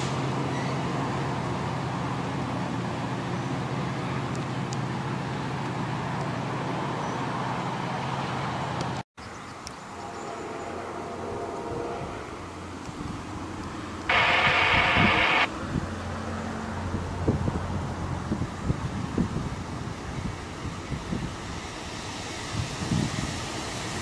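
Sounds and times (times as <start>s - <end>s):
diesel locomotive drone: 0.0s - 8.9s, 9.6s - 24.0s.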